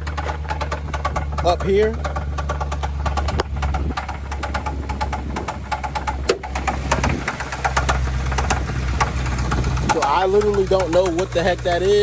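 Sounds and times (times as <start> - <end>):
engine running: 0.0 - 12.0
engine ticking and knocking: 0.0 - 12.0.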